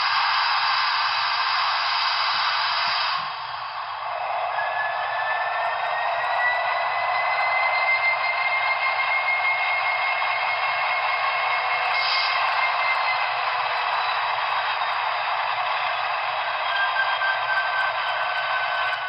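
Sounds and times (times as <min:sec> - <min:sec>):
thin locomotive engine sound: 0:00.0 - 0:19.0.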